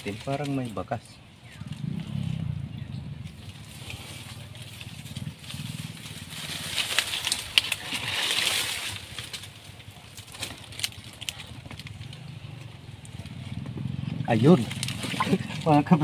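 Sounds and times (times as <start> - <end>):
dry palm fronds rustling: 0.0 - 16.0.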